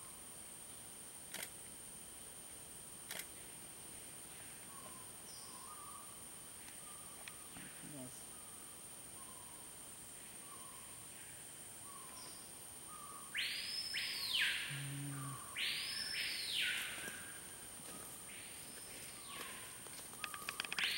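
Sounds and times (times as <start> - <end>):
harsh hissing calls: 3.1 - 20.9.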